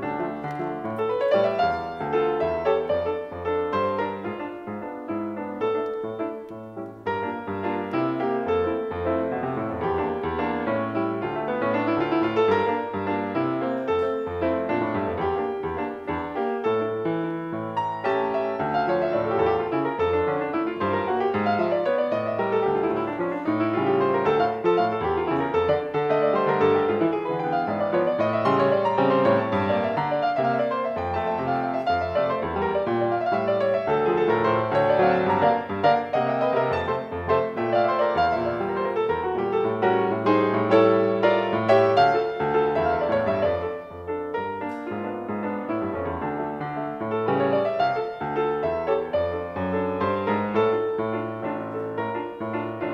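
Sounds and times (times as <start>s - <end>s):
piano playing quick notes: 0.0s - 52.9s.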